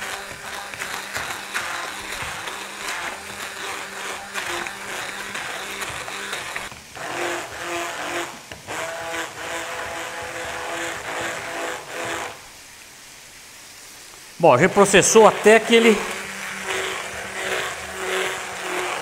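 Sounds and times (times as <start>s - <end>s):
immersion blender running: 0.0s - 12.4s, 14.6s - 19.0s.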